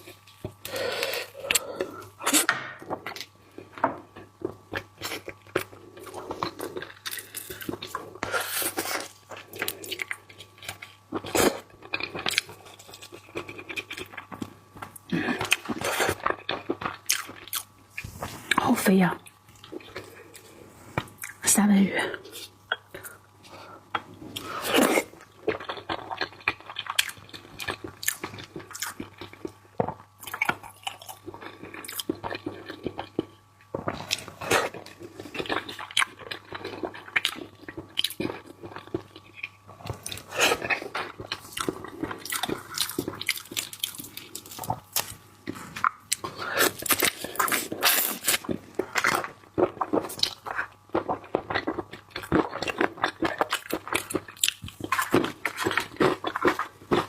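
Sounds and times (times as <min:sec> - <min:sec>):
person chewing raw seafood: 0:00.0 - 0:18.6, 0:19.2 - 0:21.4, 0:22.3 - 0:57.0.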